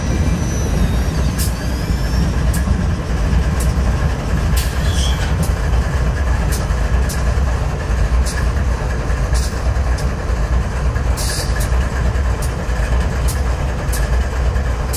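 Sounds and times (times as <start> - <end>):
locomotive engine rumble: 0.0 - 14.9.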